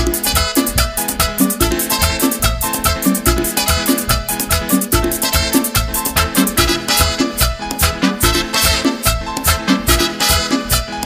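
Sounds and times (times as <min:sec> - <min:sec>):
latin dance music: 0:00.0 - 0:11.0.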